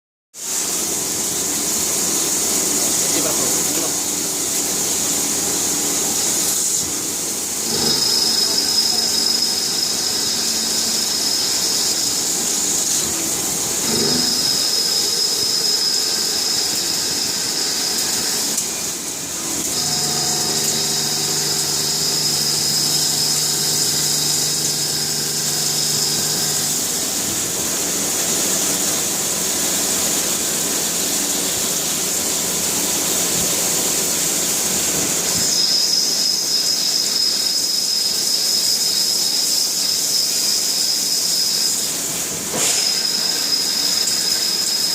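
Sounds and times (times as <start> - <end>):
machine hiss: 0.4 - 44.9
high-pitched machine whine: 0.5 - 44.9.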